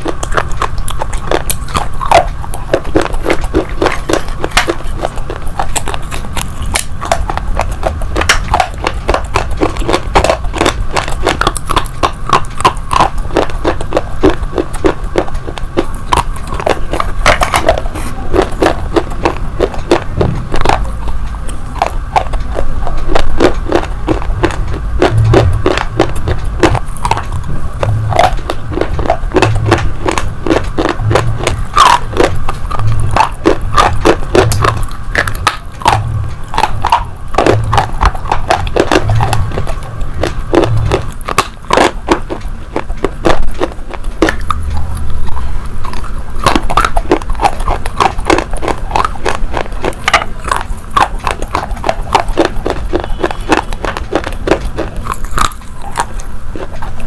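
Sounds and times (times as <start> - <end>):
crunching and chewing: 0.0 - 57.0.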